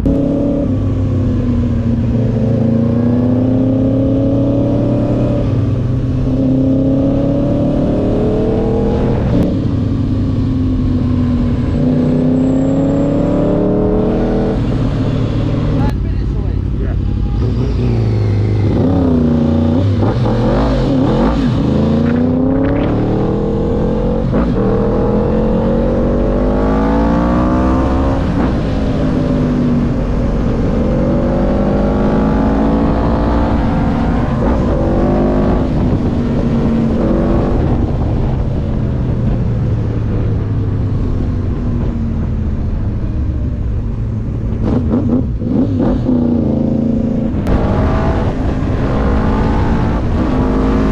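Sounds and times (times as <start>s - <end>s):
motorbike engines revving: 0.0s - 50.9s.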